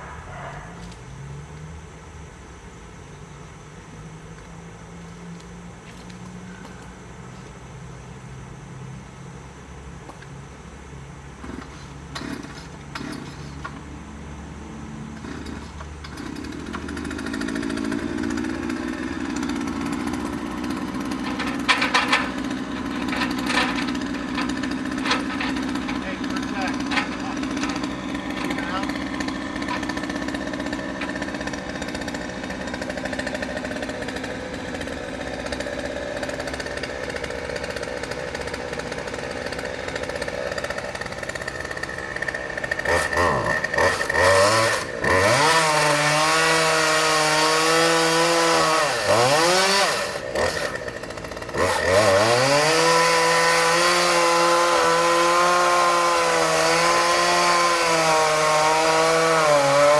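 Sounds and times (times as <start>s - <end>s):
chainsaw idling and revving: 11.0s - 59.9s.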